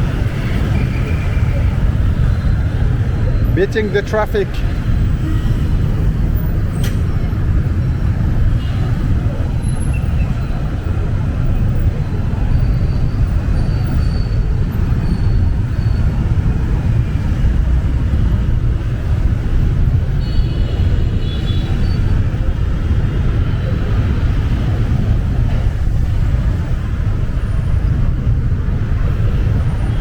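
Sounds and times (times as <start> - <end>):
road and traffic noise: 0.0 - 30.0.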